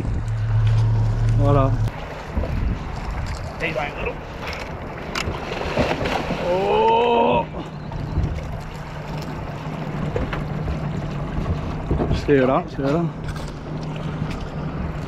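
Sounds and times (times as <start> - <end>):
outboard motor humming: 0.0 - 15.0
wind and water noise: 0.0 - 15.0.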